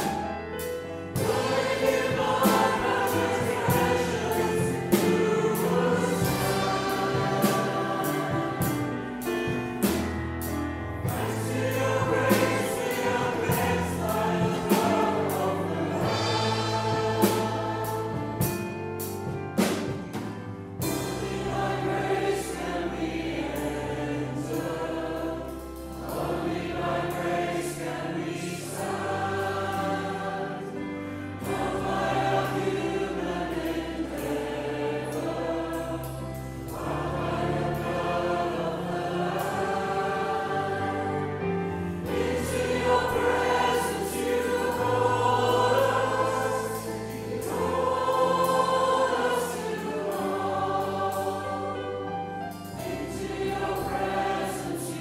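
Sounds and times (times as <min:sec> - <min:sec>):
choir singing worship song: 0:00.0 - 0:55.0
instrumental backing: 0:00.0 - 0:55.0.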